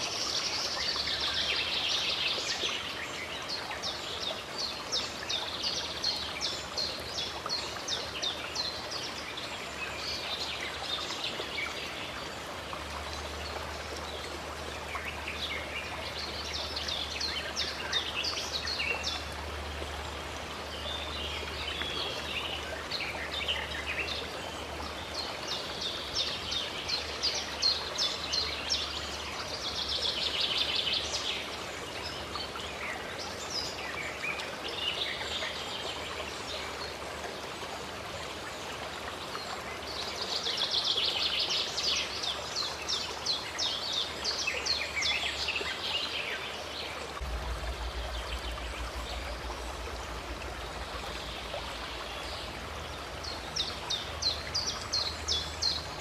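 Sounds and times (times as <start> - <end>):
songbirds chirping: 0.0 - 56.0
stream water flowing: 0.0 - 56.0.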